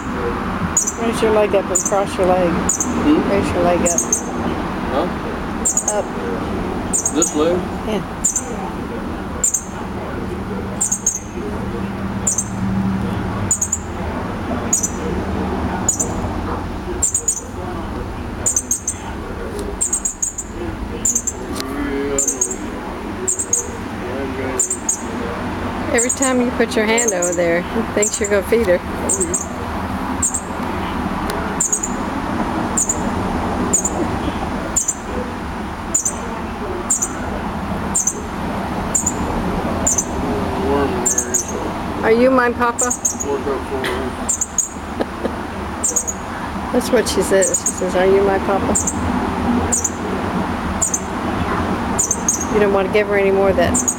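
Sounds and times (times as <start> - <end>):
fledgling bird chirping: 0.0 - 53.9.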